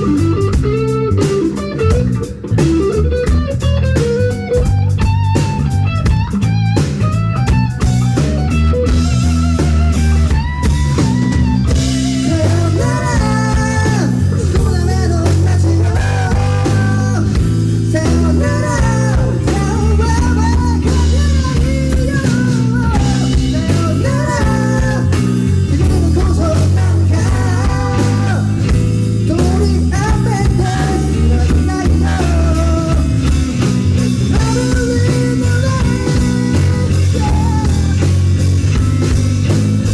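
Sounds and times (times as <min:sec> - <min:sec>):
electric guitar lead melody: 0:00.0 - 0:39.9
heavy bass: 0:00.0 - 0:39.9
live rock band playing: 0:00.0 - 0:39.9.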